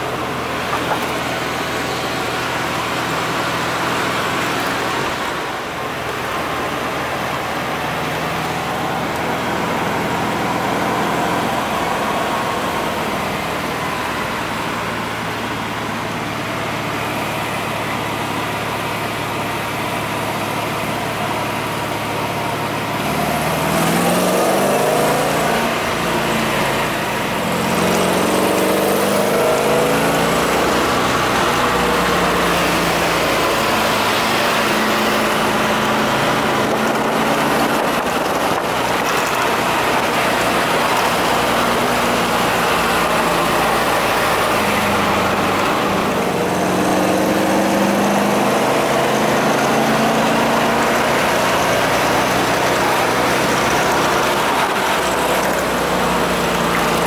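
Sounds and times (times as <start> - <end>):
car engine accelerating: 0.0 - 57.0
wind and tyre noise: 0.0 - 57.0.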